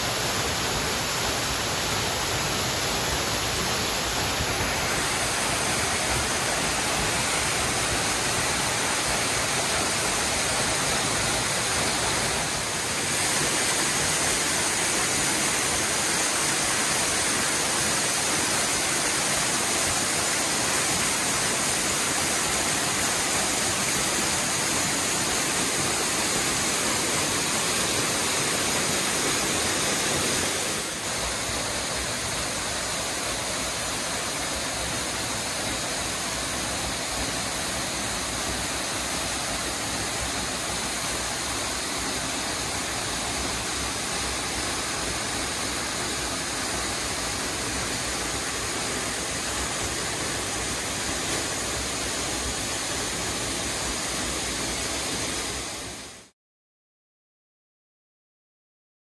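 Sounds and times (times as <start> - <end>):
waterfall rushing over rocks: 0.0 - 56.3.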